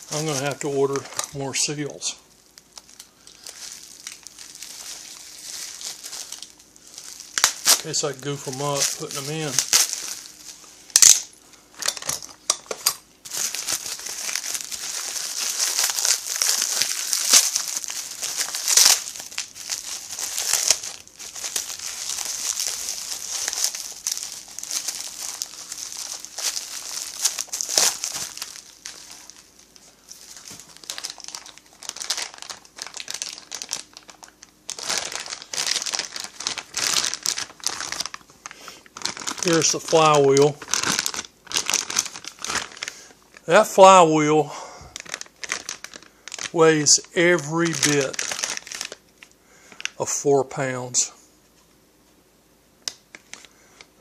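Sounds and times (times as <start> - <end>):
packaging crinkling and rustling: 0.0 - 50.0, 52.8 - 54.0.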